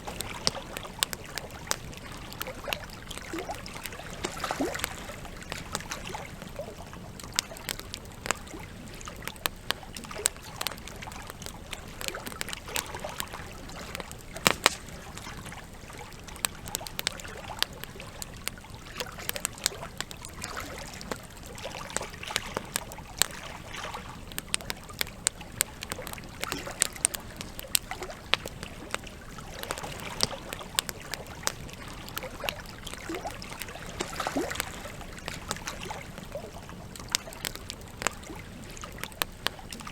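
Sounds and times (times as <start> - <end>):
campfire crackling and popping: 0.0 - 39.9
running water trickling: 0.0 - 39.9.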